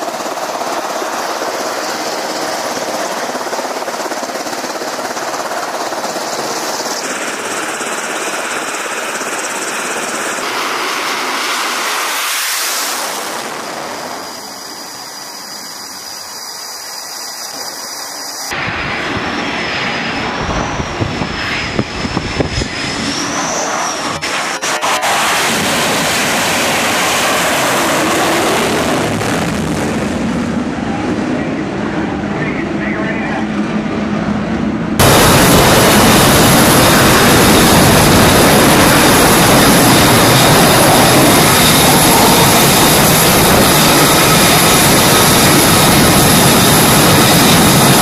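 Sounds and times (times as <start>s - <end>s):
jet engine high whine: 0.0s - 48.0s
jet engine noise: 0.0s - 48.0s.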